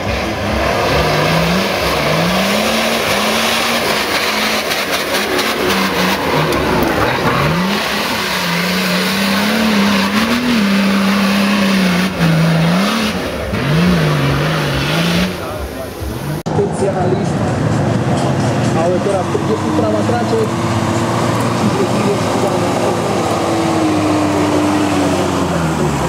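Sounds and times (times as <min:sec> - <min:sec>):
engine revving hard: 0:00.0 - 0:16.4, 0:18.1 - 0:26.0.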